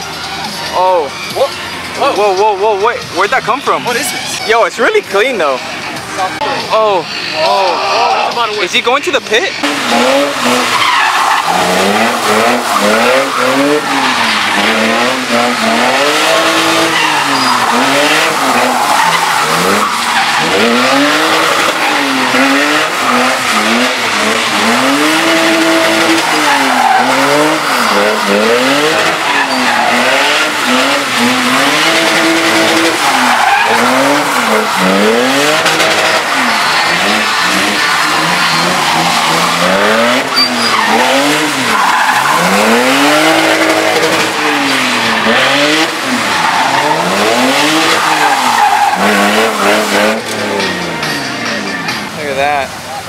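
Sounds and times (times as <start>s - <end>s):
car engine revving: 0.0s - 53.0s
tyres screeching: 0.0s - 53.0s.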